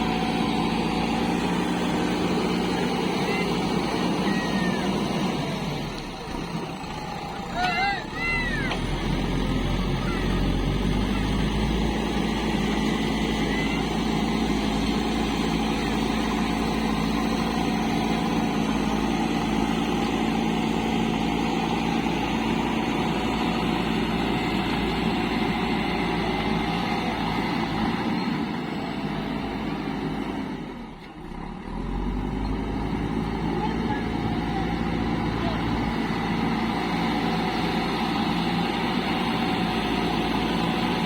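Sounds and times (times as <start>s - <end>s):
diesel machinery engine running: 0.0s - 41.0s.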